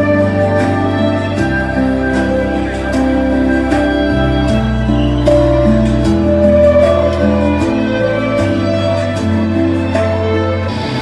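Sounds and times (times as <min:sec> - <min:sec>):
instrumental music over loudspeaker: 0:00.0 - 0:11.0.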